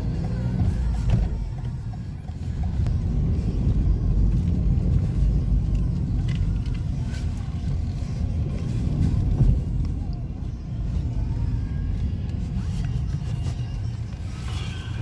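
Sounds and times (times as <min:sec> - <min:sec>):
car engine and tyres rumble: 0:00.0 - 0:15.0.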